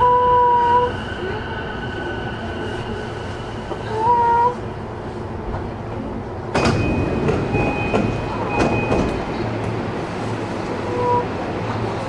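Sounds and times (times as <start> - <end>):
train running hum: 0.0 - 12.0.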